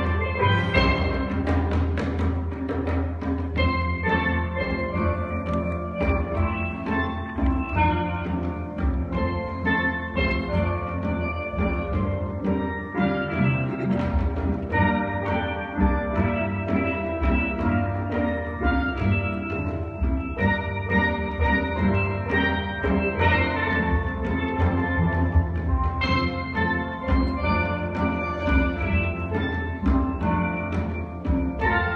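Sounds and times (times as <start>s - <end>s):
steel band playing: 0.0s - 31.9s.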